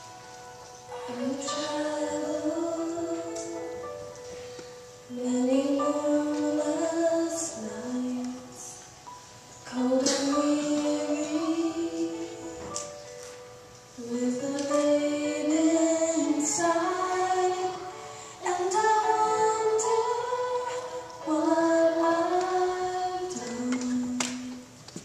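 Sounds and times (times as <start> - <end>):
girl singing into a microphone: 0.9 - 4.4, 5.1 - 8.9, 9.6 - 13.0, 14.0 - 24.8.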